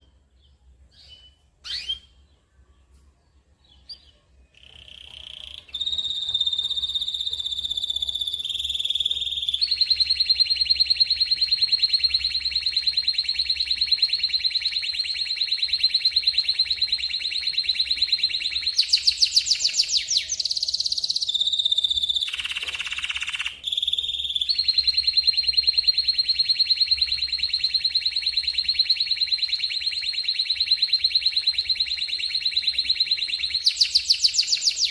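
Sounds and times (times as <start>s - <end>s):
canary singing trills: 0.3s - 2.9s, 3.6s - 34.9s.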